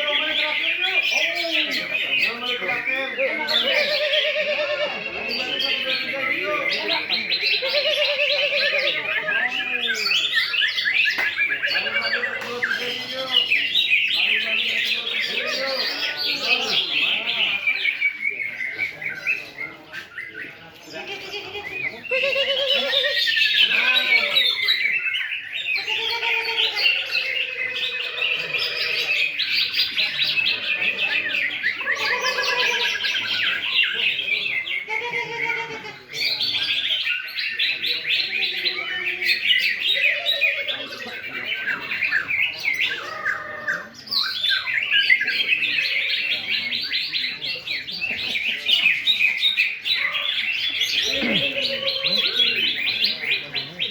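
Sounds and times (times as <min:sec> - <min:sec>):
birds singing chirps and trills: 0:00.0 - 0:53.9.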